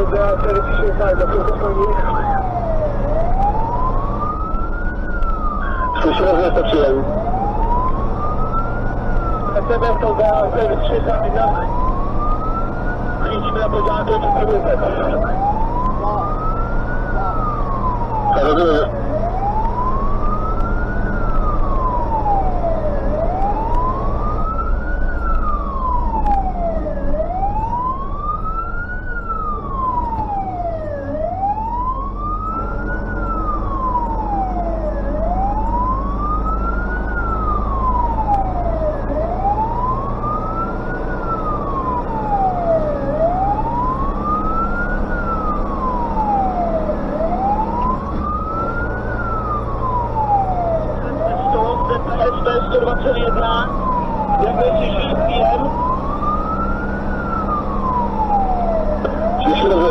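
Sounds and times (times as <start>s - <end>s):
engine drone: 0.0s - 59.9s
fire engine siren wailing: 0.0s - 59.9s.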